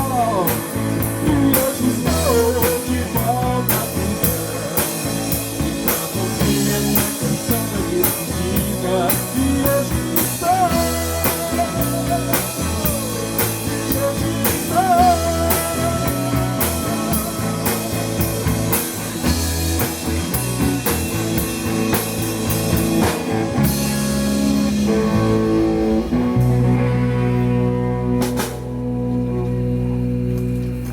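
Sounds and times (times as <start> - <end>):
drum kit beat: 0.0 - 26.8, 28.1 - 28.9
lead guitar with vibrato: 0.0 - 30.9
rock band playing: 0.0 - 30.9.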